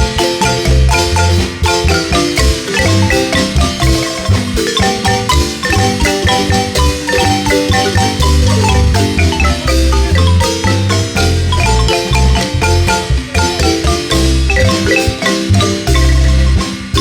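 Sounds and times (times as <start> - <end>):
marimba ensemble playing: 0.0 - 17.0
steady bass line: 0.0 - 17.0.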